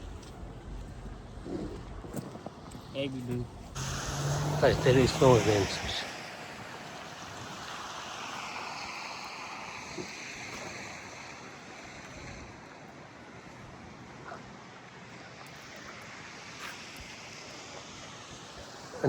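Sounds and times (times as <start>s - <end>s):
outdoor rushing noise: 0.0s - 19.0s.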